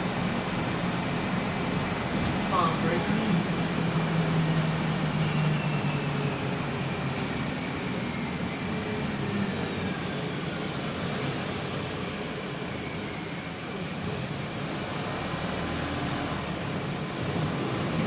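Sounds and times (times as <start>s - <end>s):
bus running with road noise: 0.0s - 18.0s.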